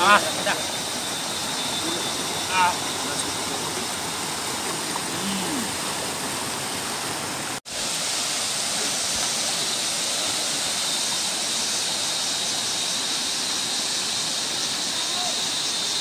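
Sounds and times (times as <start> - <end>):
stream pouring over stones: 0.0 - 16.0.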